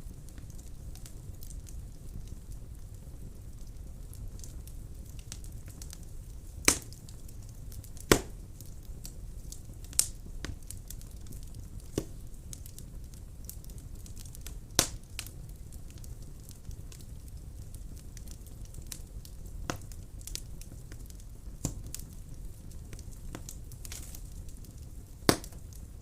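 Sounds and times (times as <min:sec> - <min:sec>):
wood fire crackling: 0:00.0 - 0:26.0
sharp pops of burning wood: 0:00.1 - 0:26.0.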